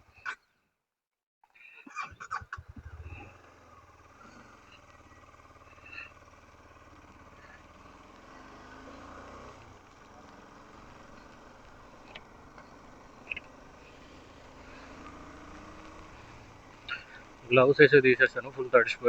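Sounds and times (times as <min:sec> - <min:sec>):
faint motorcycle engine hum: 0:01.8 - 0:19.0.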